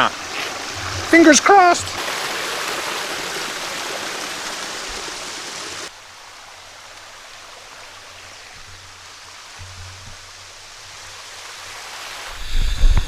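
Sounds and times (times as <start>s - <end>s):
rushing creek water: 0.0s - 13.0s.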